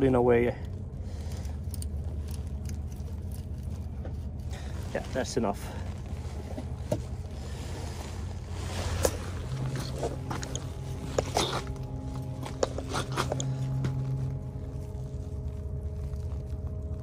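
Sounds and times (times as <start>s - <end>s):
boat engine droning: 0.0s - 17.0s
steady humming tone: 0.0s - 17.0s
gloved hands handling bait: 0.4s - 17.0s.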